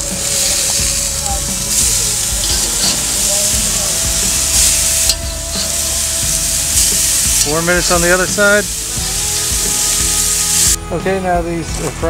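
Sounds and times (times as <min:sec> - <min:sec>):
metal spatula flipping patties: 0:00.0 - 0:10.7
burger patties sizzling on grill: 0:00.0 - 0:12.0.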